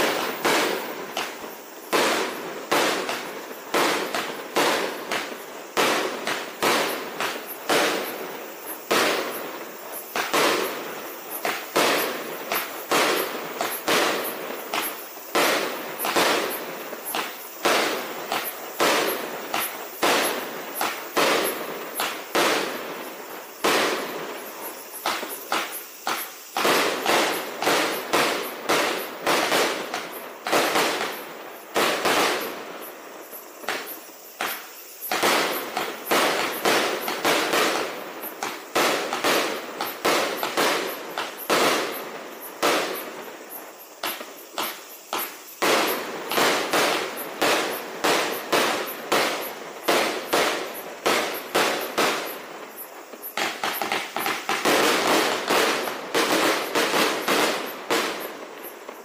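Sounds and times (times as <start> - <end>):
firework hiss: 0.0 - 59.0
fireworks bangs: 0.0 - 59.0.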